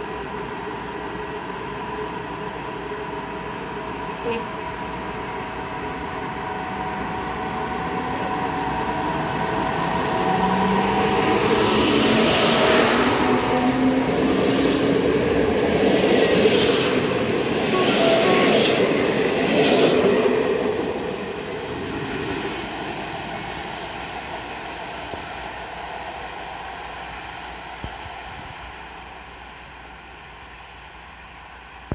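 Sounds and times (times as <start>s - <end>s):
electric locomotive whine: 0.0s - 31.9s.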